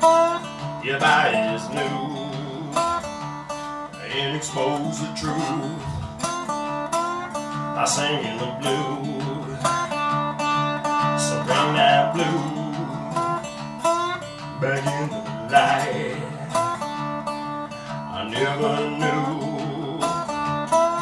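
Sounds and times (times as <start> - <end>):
slide guitar playing blues: 0.0 - 21.0.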